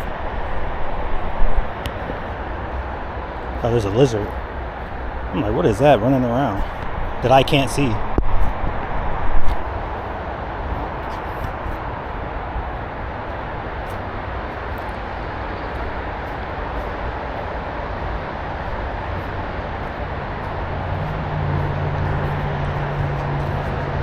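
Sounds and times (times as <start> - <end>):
distant traffic rumble: 0.0 - 24.0
low engine hum: 0.0 - 24.0.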